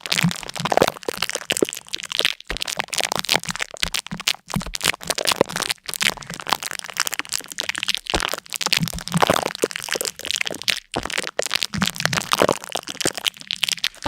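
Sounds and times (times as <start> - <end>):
dense crackling and crunching: 0.0 - 14.0.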